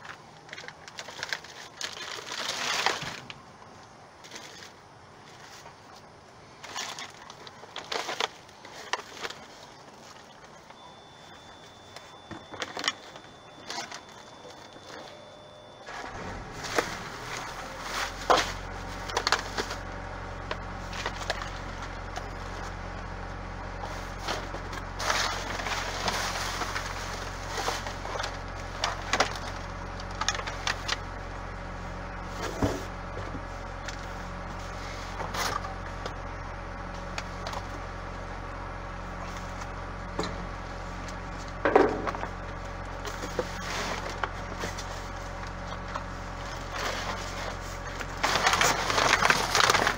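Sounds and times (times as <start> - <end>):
plastic and cardboard rustling: 0.0 - 3.5, 4.2 - 36.3, 39.1 - 49.9
steady low hum: 0.0 - 49.9.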